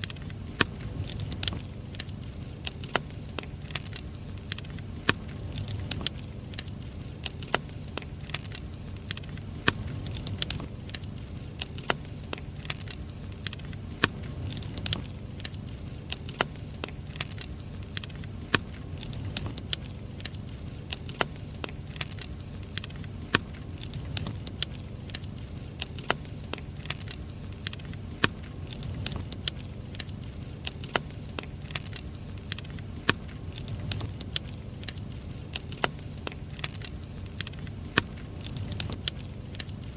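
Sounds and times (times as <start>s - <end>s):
firewood crackling and snapping: 0.0s - 39.9s
low steady rumble: 0.0s - 39.9s.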